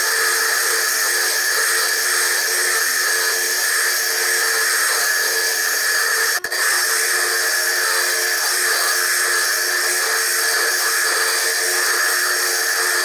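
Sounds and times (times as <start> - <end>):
drill grinding stone: 0.0 - 13.0.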